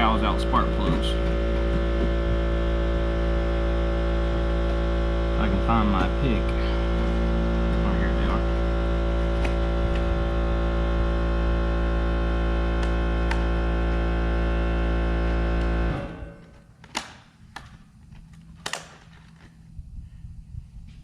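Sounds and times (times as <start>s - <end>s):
loud electrical hum: 0.0s - 21.0s.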